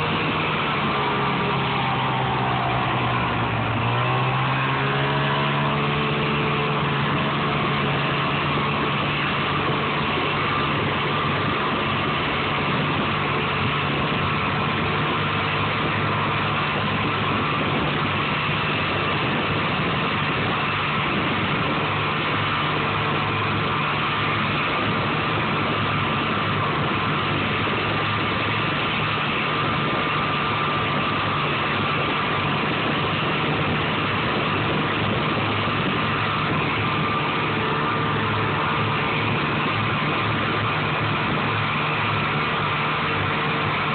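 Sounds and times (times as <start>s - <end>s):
constant rushing noise: 0.0s - 43.9s
snowmobile engine running: 0.0s - 43.9s.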